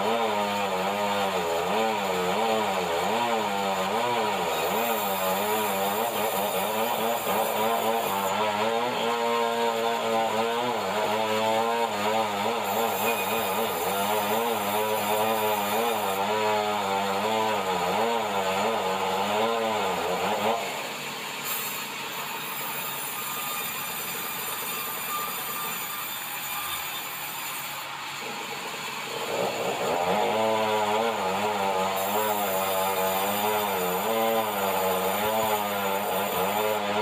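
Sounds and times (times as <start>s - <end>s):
band saw cutting timber: 0.0s - 37.0s.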